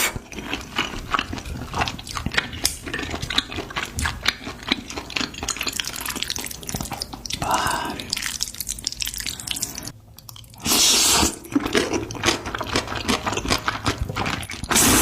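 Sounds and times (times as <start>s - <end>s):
close-miked chewing: 0.0s - 15.0s.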